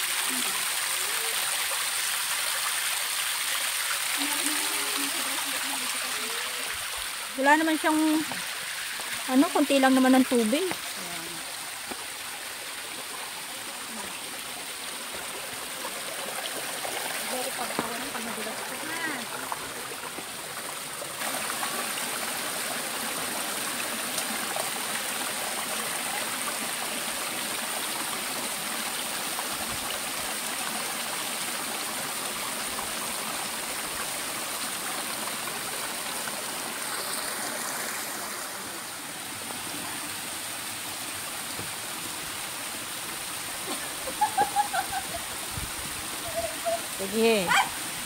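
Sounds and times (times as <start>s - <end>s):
stream rushing over rocks: 0.0s - 48.0s.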